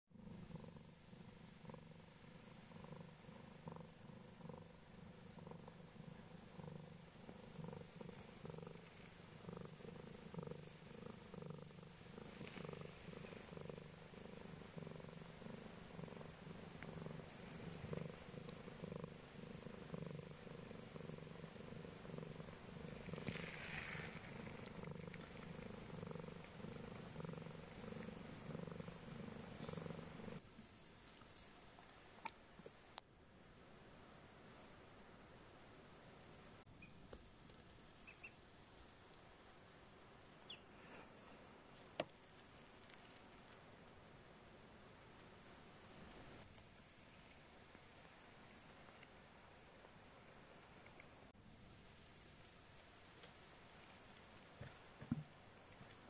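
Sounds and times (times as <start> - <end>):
cat purring: 0.1 - 33.0, 33.6 - 51.4.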